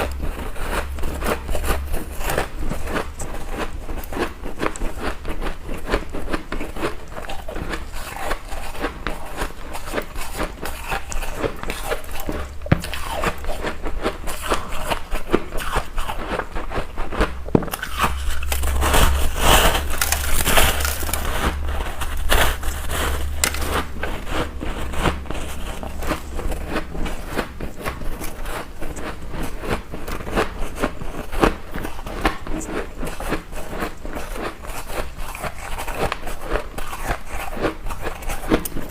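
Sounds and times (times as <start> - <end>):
ice cubes crunching between teeth: 0.0 - 38.9.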